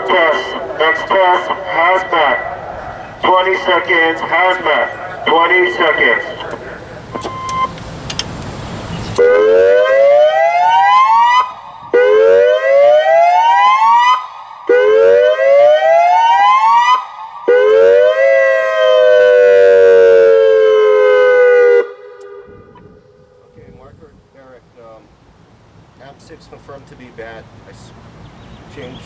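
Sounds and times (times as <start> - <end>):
outdoor warning siren whooping: 0.0 - 23.5.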